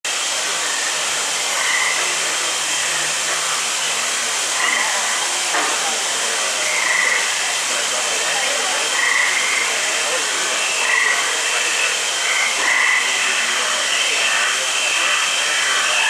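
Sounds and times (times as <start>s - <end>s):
water pouring into pond: 0.1s - 15.9s.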